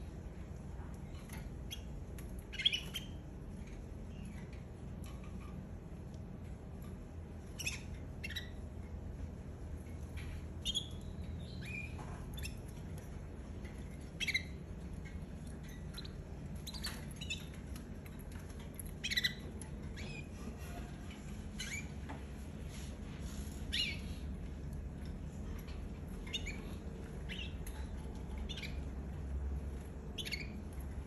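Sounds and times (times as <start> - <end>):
canaries chirping: 0.0 - 31.0.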